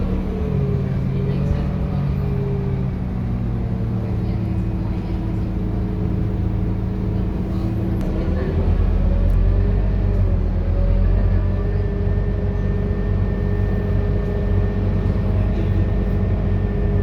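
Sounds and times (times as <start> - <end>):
bus diesel engine humming: 0.0 - 17.0.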